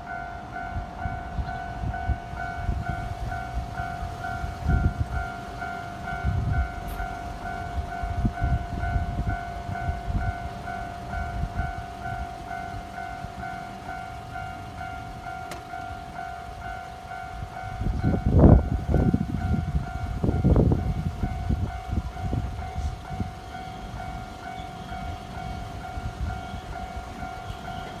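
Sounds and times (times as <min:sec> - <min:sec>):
level crossing bell ringing: 0:00.0 - 0:28.0.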